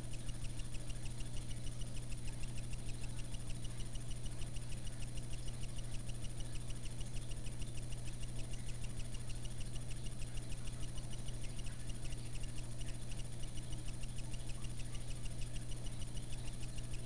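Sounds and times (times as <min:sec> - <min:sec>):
low electrical hum: 0:00.0 - 0:17.0
rapid even ticking: 0:00.0 - 0:17.0.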